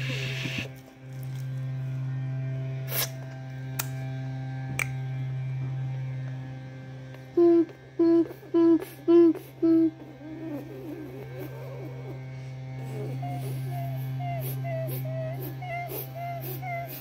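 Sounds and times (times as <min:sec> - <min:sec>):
electrical hum on phone line: 0:00.0 - 0:17.0.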